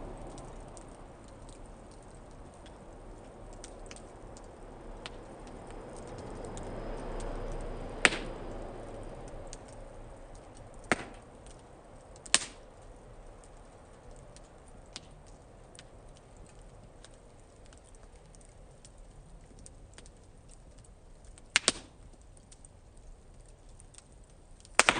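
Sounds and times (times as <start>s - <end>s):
soft rush of flame: 0.0s - 24.9s
wood fire crackling: 0.0s - 24.9s
sharp pops of fire: 0.1s - 24.9s.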